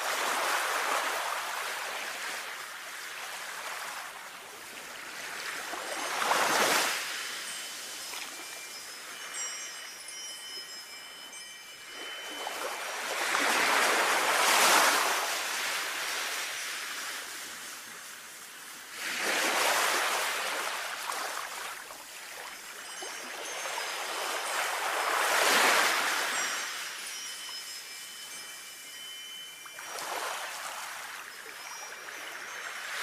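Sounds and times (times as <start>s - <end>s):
sea waves washing onto shore: 0.0s - 9.8s, 11.9s - 28.8s
faint wind chimes ringing: 0.0s - 33.0s.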